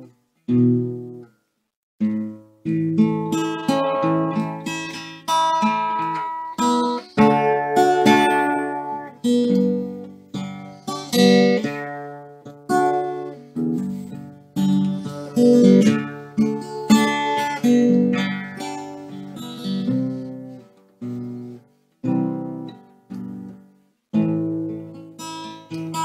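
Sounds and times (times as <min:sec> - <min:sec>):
guitar chords strummed: 0:00.0 - 0:01.3, 0:02.0 - 0:26.0.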